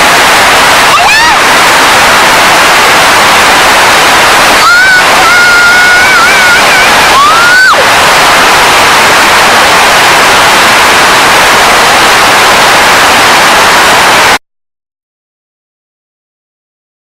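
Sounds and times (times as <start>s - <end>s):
loud steady hiss: 0.0s - 14.4s.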